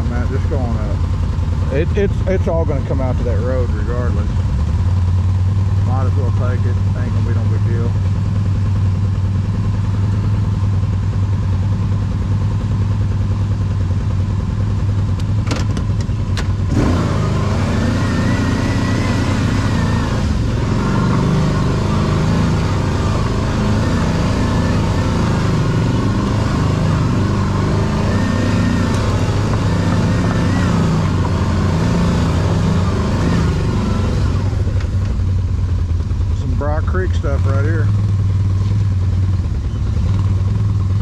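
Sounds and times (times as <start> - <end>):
atv engine idling and revving: 0.0 - 41.0.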